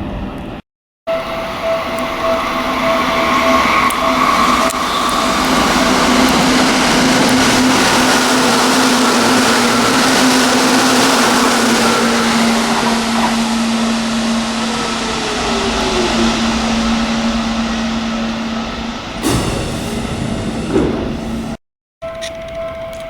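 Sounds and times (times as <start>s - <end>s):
train wheel and rail noise: 0.0s - 23.0s
falling whine: 1.1s - 21.6s.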